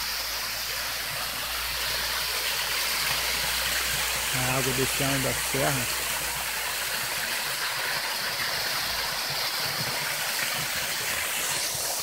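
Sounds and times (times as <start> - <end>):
small waterfall splashing: 0.0 - 12.0.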